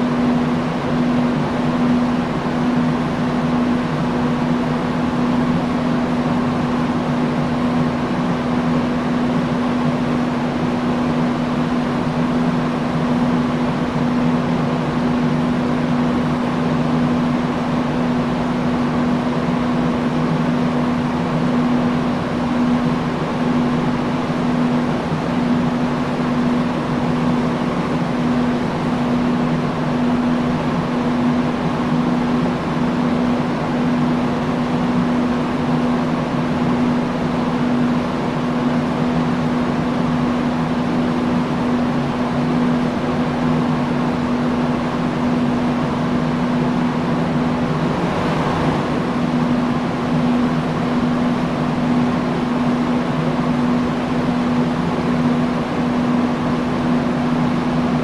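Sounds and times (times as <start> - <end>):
industrial fan running: 0.0 - 58.0.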